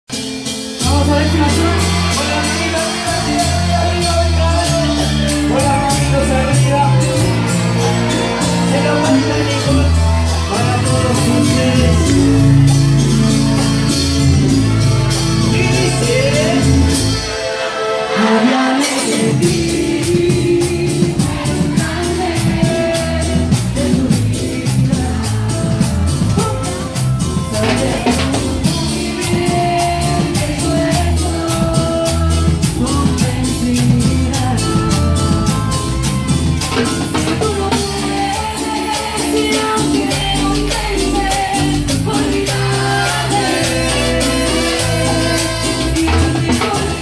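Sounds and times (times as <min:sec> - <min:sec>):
cumbia band with keyboards: 0:00.0 - 0:47.0
person singing: 0:00.5 - 0:47.0
bouncing bass line: 0:00.8 - 0:17.2, 0:19.3 - 0:47.0.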